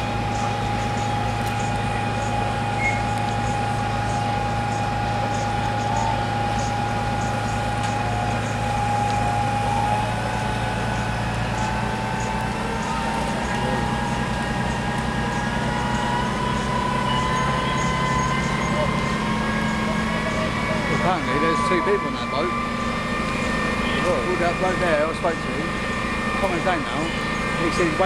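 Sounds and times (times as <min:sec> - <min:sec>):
engine hum with high whine: 0:00.0 - 0:28.0.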